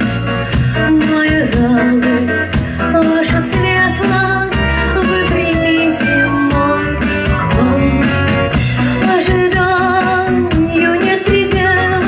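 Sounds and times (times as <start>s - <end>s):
drums: 0.0s - 12.0s
electric bass guitar: 0.0s - 12.0s
woman singing: 0.8s - 12.0s.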